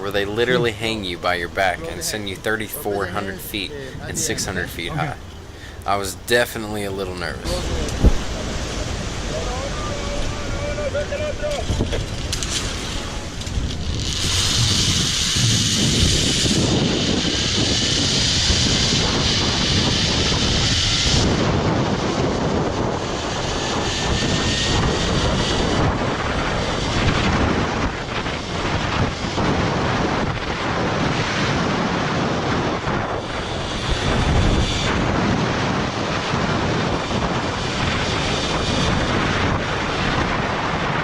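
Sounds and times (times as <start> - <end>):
heavy wind on microphone: 0.0 - 41.0.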